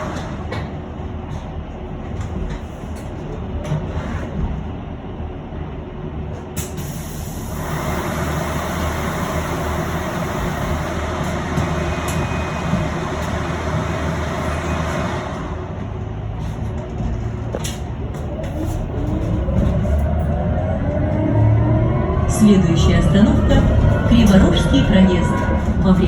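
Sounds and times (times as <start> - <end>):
bus ride rumble: 0.0 - 26.0.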